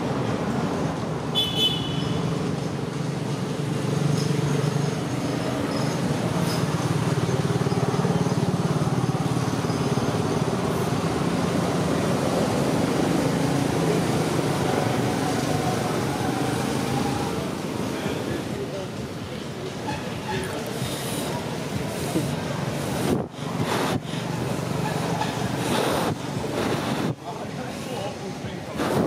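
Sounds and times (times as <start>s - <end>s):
low rumble of traffic: 0.0s - 29.0s.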